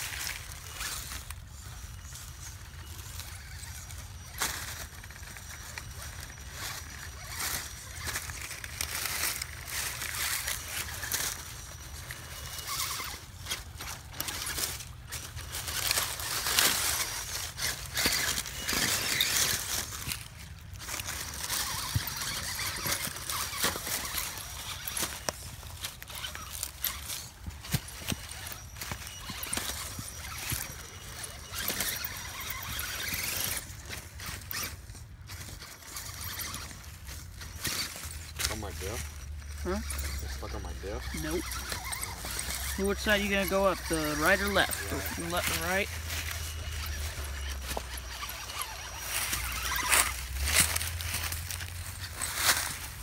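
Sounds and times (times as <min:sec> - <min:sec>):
leaves rustling and crackling: 0:00.0 - 0:53.0
toy car motor whining: 0:00.0 - 0:53.0
tyres scraping on stone: 0:00.0 - 0:53.0.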